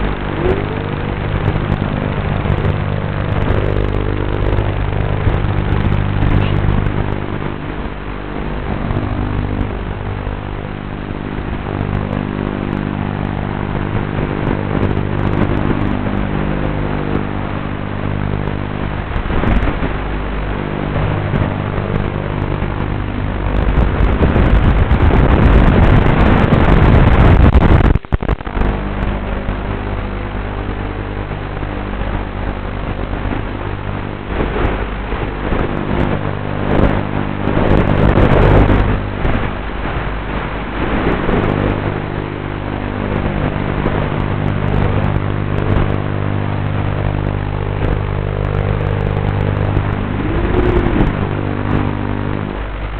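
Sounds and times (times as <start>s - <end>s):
quadcopter motors humming: 0.0s - 52.9s.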